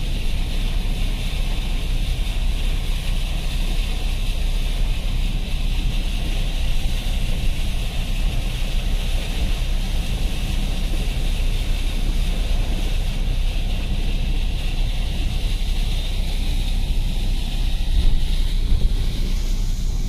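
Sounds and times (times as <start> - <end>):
engine and tyre rumble: 0.0 - 20.0
water swishing: 0.0 - 20.0.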